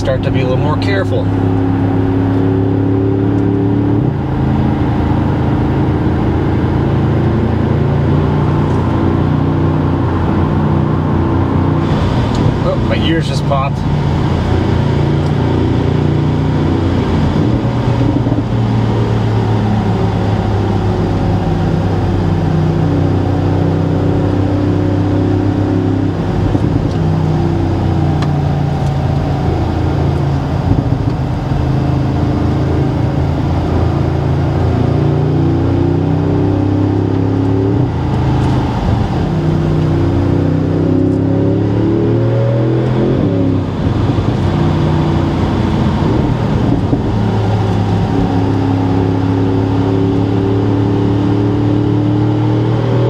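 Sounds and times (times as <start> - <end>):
car engine running: 0.0 - 53.0
road noise: 0.0 - 53.0.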